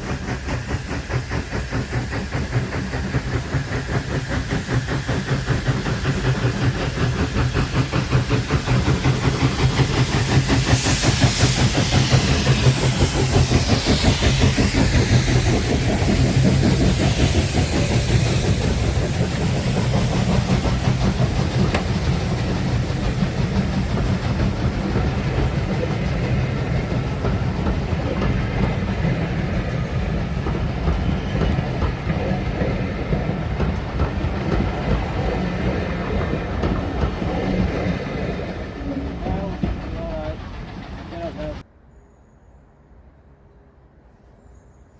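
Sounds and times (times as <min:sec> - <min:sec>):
steam hissing: 0:00.0 - 0:41.6
train wheels clattering on rails: 0:00.0 - 0:41.7.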